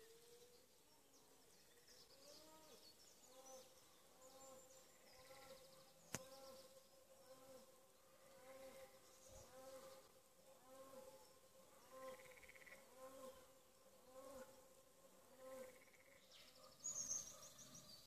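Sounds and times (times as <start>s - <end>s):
insect buzz: 0.0s - 16.4s.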